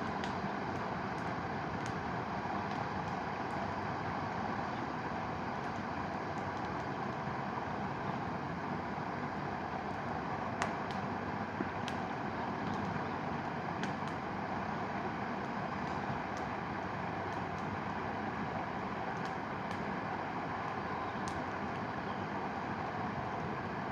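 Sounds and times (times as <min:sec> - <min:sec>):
bonfire crackling and popping: 0:00.0 - 0:23.9.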